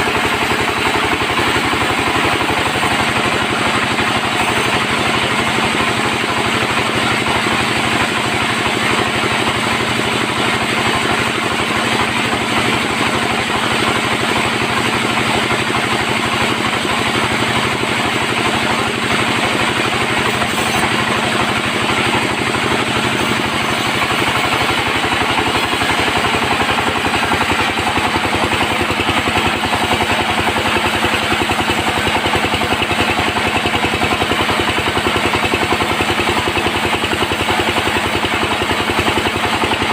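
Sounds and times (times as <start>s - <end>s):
bandsaw sawing wood: 0.0s - 15.0s, 15.8s - 39.9s.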